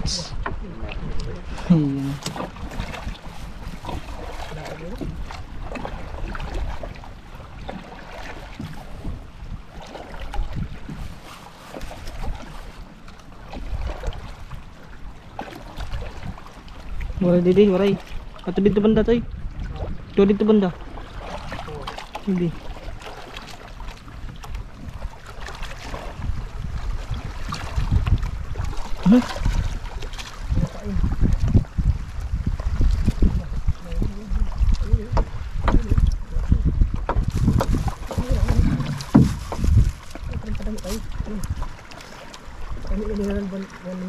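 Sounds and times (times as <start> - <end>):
water lapping around boat: 0.0 - 44.0
wind buffeting microphone: 0.0 - 44.0.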